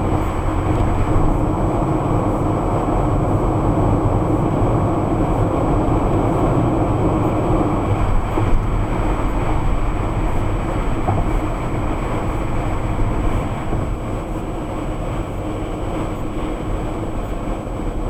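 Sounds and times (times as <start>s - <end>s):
car road noise: 0.0s - 18.0s.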